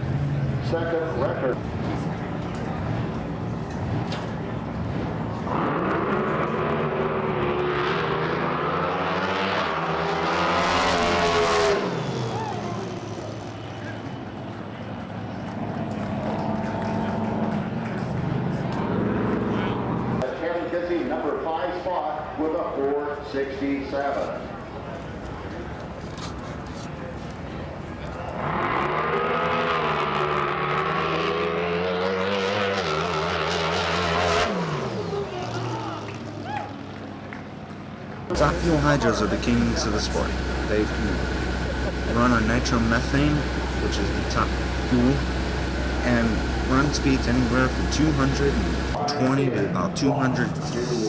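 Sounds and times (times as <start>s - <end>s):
boat race engine at full throttle: 0.0s - 20.3s, 24.5s - 51.0s.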